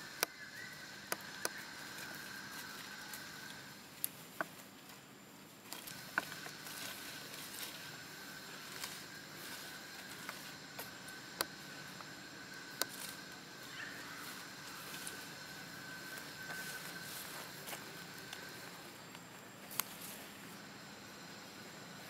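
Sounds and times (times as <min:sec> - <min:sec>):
dry leaves and twigs crackling: 0:00.0 - 0:22.0
high insect drone: 0:00.0 - 0:22.0.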